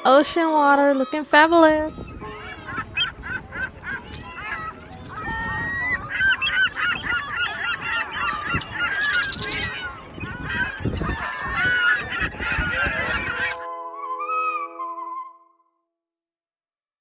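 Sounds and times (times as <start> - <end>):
flock of birds calling: 0.0 - 13.7.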